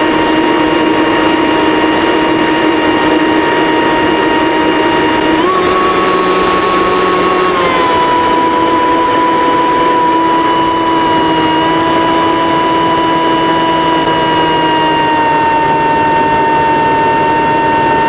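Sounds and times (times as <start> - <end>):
aircraft engine drone with whine: 0.0 - 18.0.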